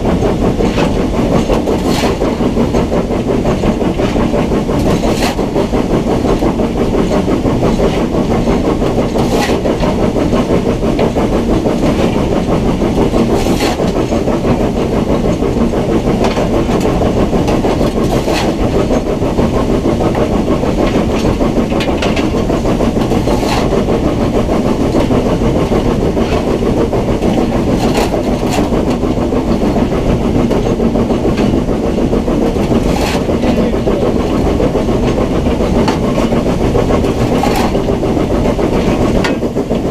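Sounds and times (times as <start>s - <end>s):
steam locomotive rumble and clatter: 0.0s - 39.9s.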